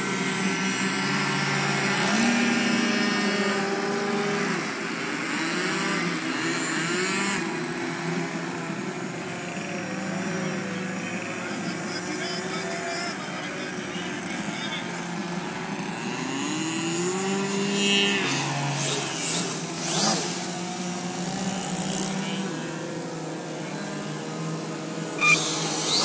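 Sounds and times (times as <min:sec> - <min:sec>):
model airplane engines buzzing: 0:00.0 - 0:26.0.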